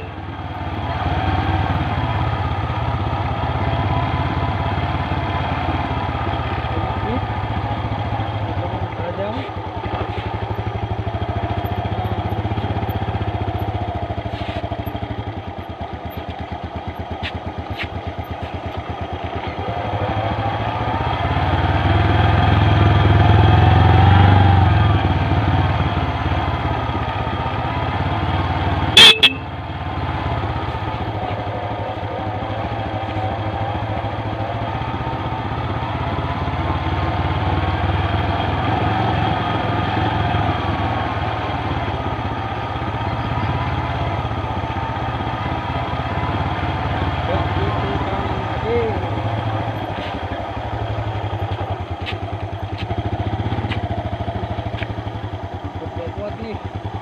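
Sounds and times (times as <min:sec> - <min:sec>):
loud engine blips: 0:00.0 - 0:57.0
small motorcycle engine running: 0:00.0 - 0:57.0.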